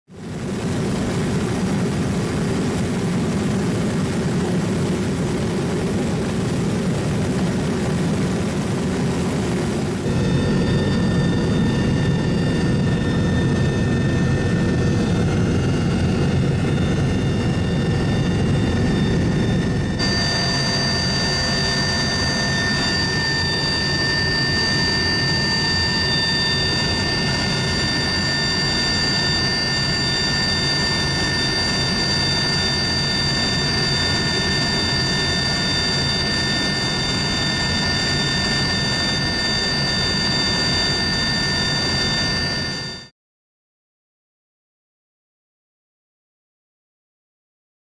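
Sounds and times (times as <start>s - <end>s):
helicopter engines and rotor: 0.1s - 43.1s.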